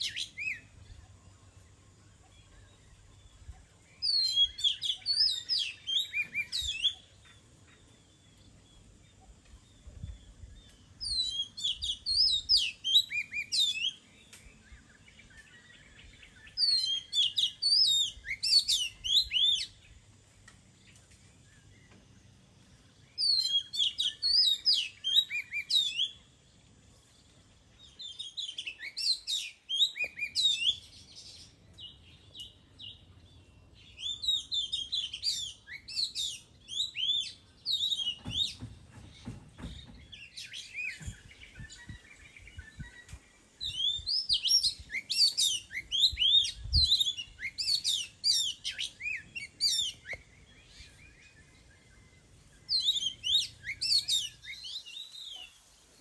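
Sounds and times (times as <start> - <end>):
bird singing whistled notes: 0.0 - 20.0, 22.9 - 26.4, 27.2 - 56.0.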